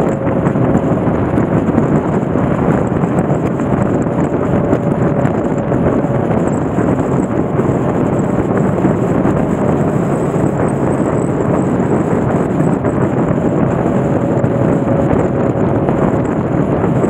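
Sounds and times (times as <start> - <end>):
motorcycle road and engine noise: 0.0 - 17.0
wind rush over microphone: 0.0 - 17.0.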